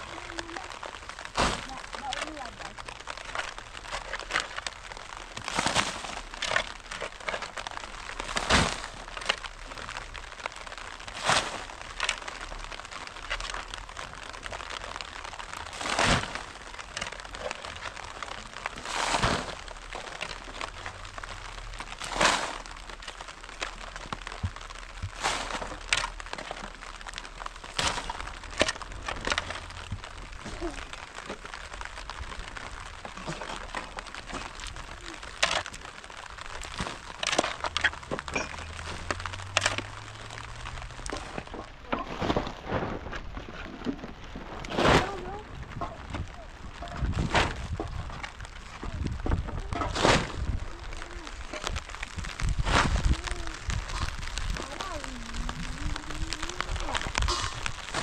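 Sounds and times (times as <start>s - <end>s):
sharp cracks and crunches: 0.0s - 58.0s.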